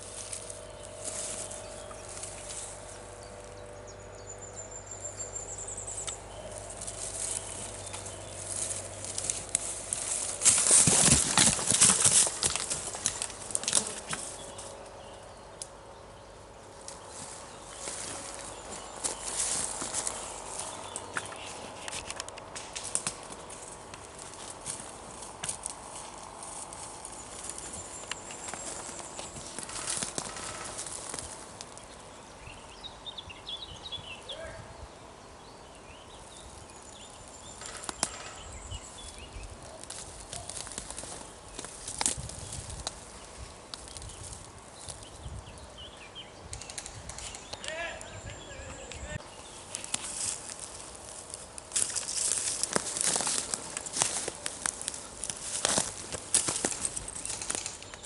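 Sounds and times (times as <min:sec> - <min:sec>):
footsteps on rough ground: 0:00.0 - 0:04.2, 0:05.8 - 0:15.4, 0:16.4 - 0:32.0, 0:36.3 - 0:45.7, 0:47.3 - 0:58.0
bird chirping: 0:00.0 - 0:22.4, 0:24.9 - 0:58.0
rustling and crunching in dry leaves: 0:00.0 - 0:32.4, 0:35.7 - 0:46.0, 0:47.1 - 0:58.0.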